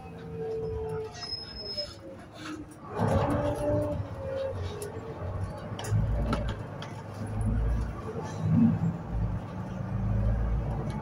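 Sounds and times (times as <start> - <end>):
bus diesel engine running: 0.0 - 11.0
low road rumble: 0.0 - 11.0.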